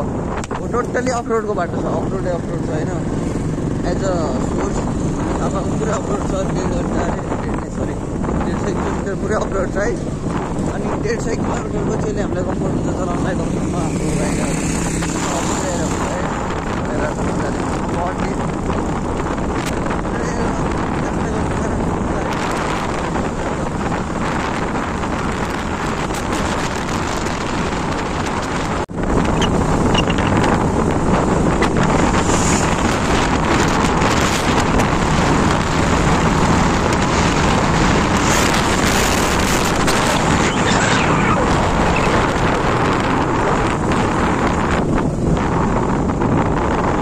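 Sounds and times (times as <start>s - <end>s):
road noise: 0.0s - 47.0s
wind rushing over microphone: 0.0s - 47.0s
motorcycle engine: 1.5s - 6.7s, 13.0s - 47.0s.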